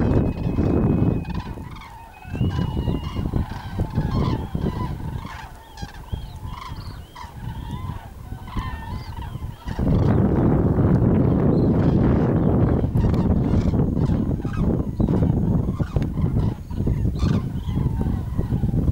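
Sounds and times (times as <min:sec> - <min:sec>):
cranes calling: 0:00.0 - 0:18.9.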